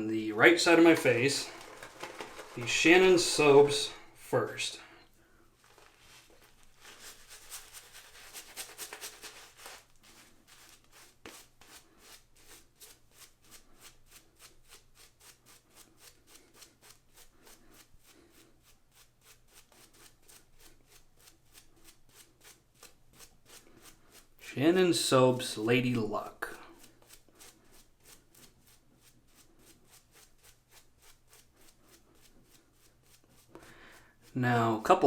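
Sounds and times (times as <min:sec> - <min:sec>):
shaving brush lathering face: 0:00.2 - 0:04.6, 0:05.6 - 0:35.0.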